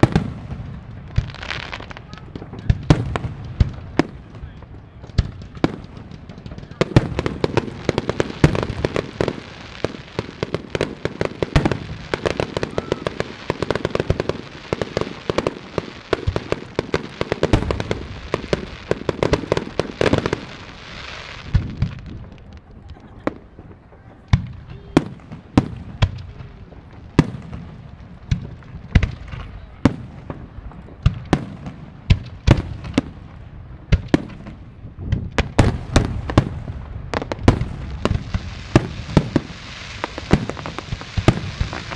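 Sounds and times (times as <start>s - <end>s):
sharp firework bangs: 0.0s - 22.3s, 23.3s - 41.9s
firework crackling: 0.0s - 41.9s.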